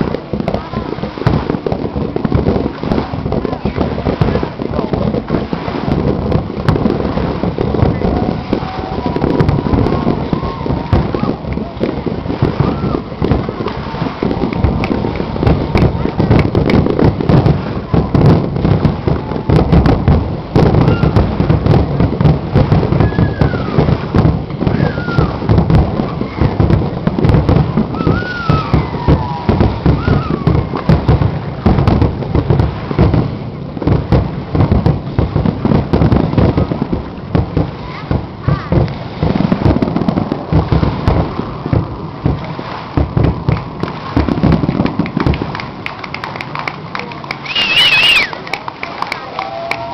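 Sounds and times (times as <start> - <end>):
fireworks booming and crackling: 0.0 - 49.9.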